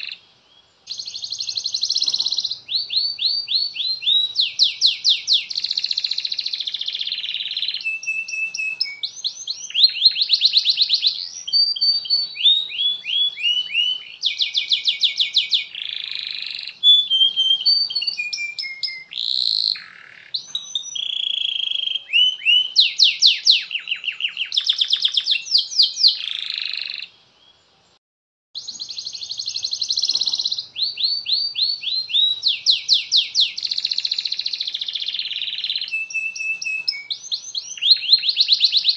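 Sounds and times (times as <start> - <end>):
canary singing trills: 0.0 - 27.6, 28.6 - 38.9.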